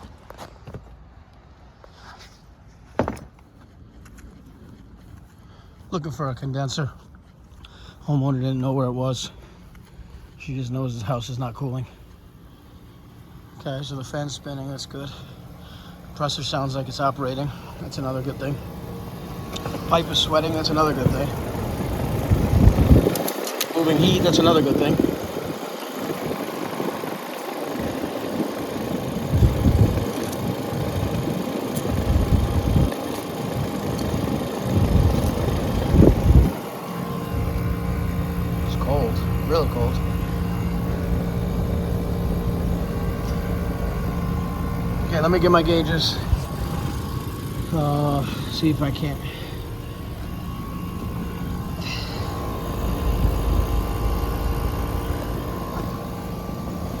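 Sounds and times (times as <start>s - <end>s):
air conditioner running: 0.0s - 57.0s.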